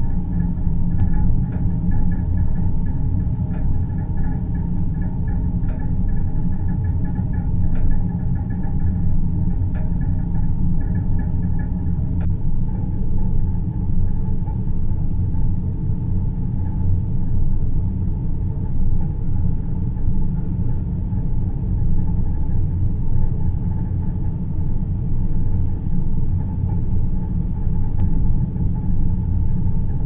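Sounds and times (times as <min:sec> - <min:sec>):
deep rumbling synth drone: 0:00.0 - 0:30.0
faint steady hum: 0:00.0 - 0:30.0.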